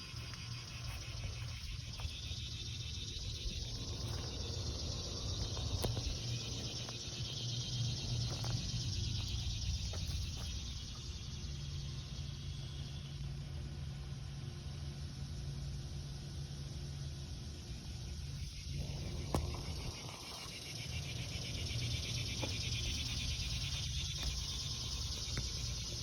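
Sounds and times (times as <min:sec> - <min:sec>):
air-conditioner unit humming: 0:00.0 - 0:26.0
crickets chirping: 0:00.0 - 0:26.0.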